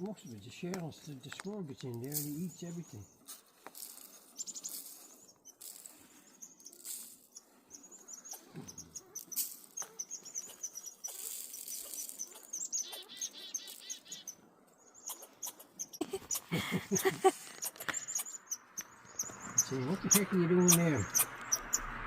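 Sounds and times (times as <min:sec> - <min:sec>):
small birds chirping: 0:00.0 - 0:22.0
bird trill: 0:04.0 - 0:22.0.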